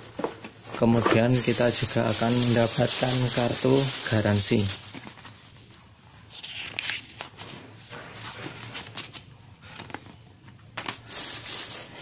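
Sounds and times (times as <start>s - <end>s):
paper card rustling: 0.9s - 12.0s.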